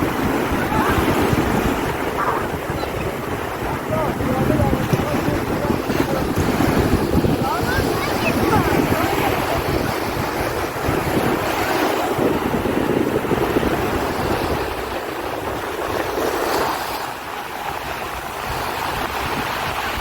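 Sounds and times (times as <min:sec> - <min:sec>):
waves washing ashore: 0:00.0 - 0:20.0
wind buffeting microphone: 0:00.0 - 0:20.0.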